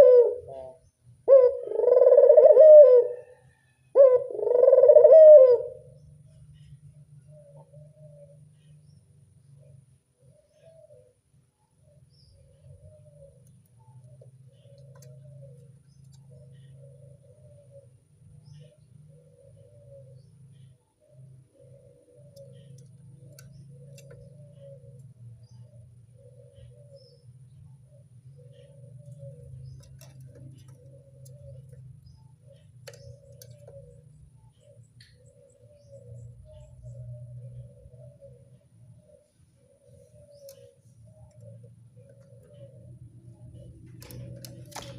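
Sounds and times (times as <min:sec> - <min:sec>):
dove cooing: 0:00.0 - 0:08.9, 0:09.5 - 0:44.9
steady low hum: 0:04.0 - 0:44.9
small birds chirping: 0:05.8 - 0:44.9.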